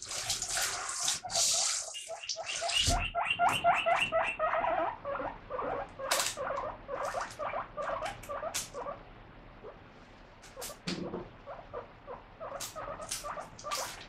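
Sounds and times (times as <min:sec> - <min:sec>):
guinea pig squeaking: 0:00.8 - 0:09.0, 0:10.4 - 0:14.0.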